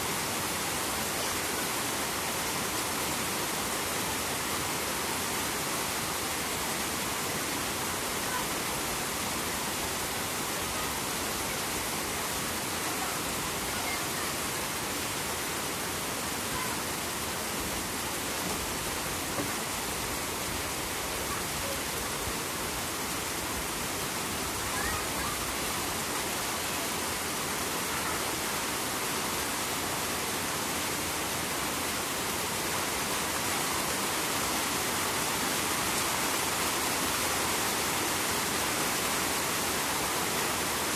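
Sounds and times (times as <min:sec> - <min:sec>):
river rushing: 0:00.0 - 0:40.9
steady rain falling: 0:00.0 - 0:40.9.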